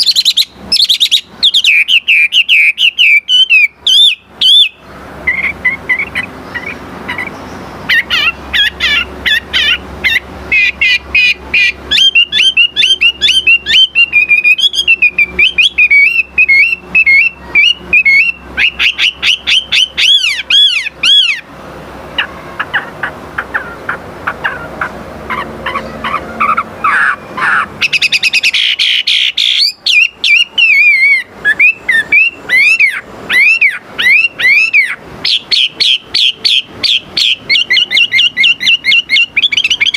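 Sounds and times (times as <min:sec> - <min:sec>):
songbird whistling: 0:00.0 - 0:21.5, 0:22.2 - 0:39.9
high chattering bird notes: 0:00.0 - 0:39.9.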